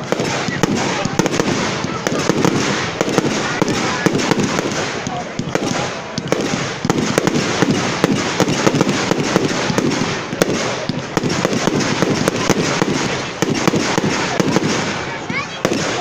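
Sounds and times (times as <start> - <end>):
fireworks cracking and banging: 0.0 - 16.0.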